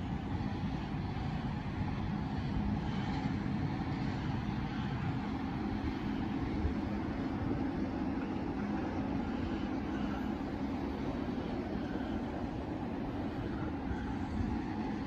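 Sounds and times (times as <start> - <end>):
low rumble of city traffic: 0.0 - 15.0.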